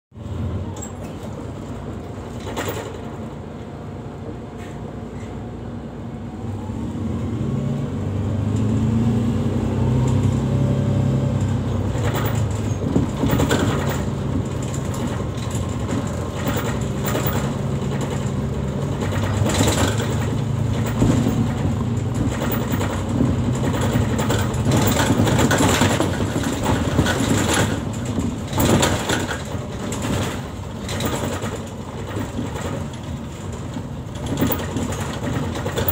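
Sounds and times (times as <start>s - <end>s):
bus interior rattling and knocking: 0.1s - 6.3s, 7.4s - 35.9s
bus engine running: 0.1s - 35.9s.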